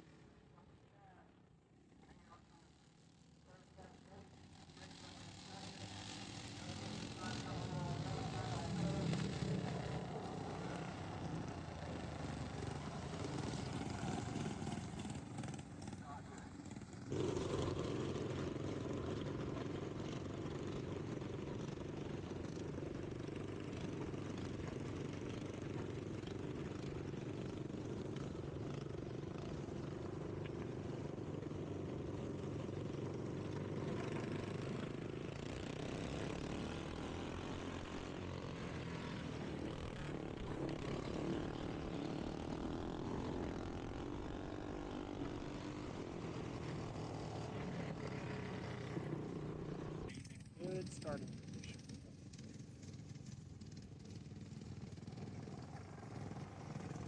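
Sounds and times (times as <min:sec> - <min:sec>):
lawnmower engine running: 0:02.7 - 0:57.0.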